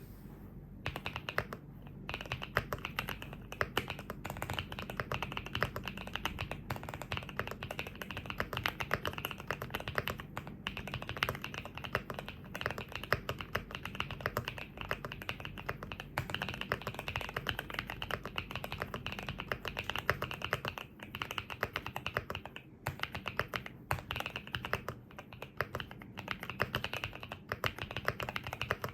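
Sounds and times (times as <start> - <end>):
fast typing on mechanical keyboard: 0.8 - 28.9.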